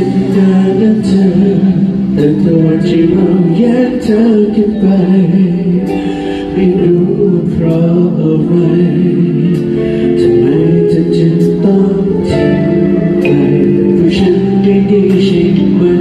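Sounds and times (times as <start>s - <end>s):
live band playing: 0.0s - 16.0s
man singing into microphone: 0.0s - 16.0s.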